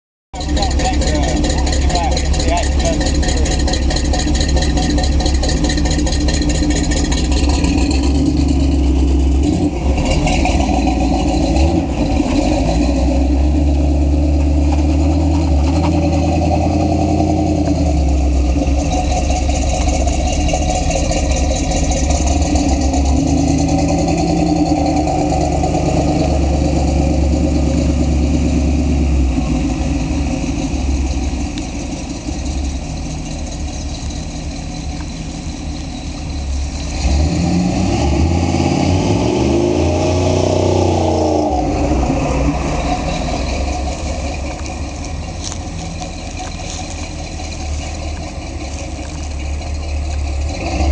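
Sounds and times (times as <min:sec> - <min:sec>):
truck engine running: 0:00.4 - 0:50.9.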